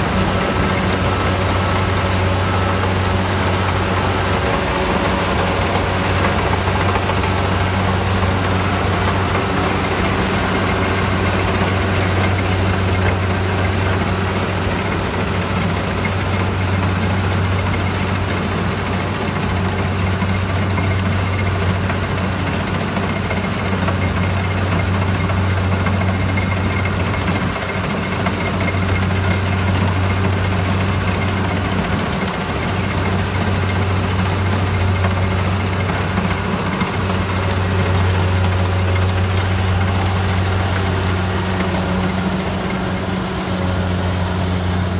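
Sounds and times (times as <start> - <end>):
harvester engine drone: 0.0 - 44.9
machinery clatter: 0.0 - 44.9.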